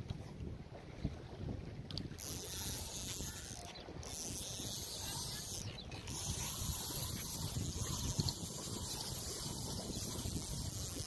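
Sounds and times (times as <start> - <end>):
fishing reel whirring: 1.9 - 11.0.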